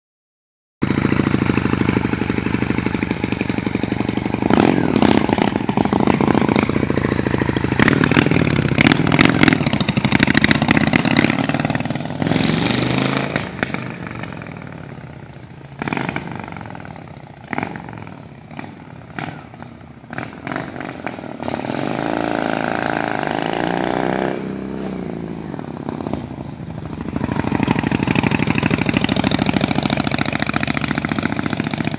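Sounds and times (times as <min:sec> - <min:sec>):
motorcycle engine revving: 0:00.8 - 0:31.9.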